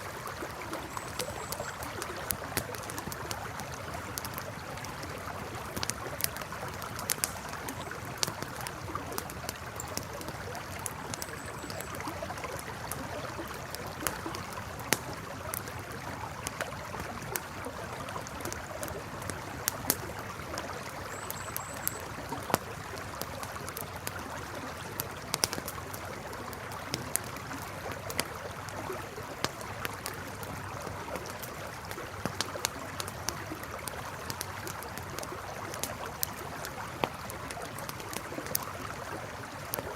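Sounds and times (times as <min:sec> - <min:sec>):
campfire crackling and popping: 0:00.0 - 0:39.9
river running: 0:00.0 - 0:39.9.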